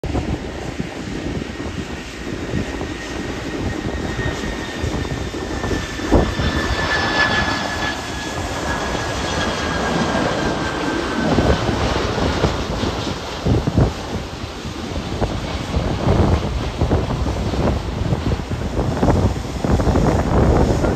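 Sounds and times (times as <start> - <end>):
jet engines passing: 0.0 - 20.9
wind gusts buffeting microphone: 0.0 - 20.9.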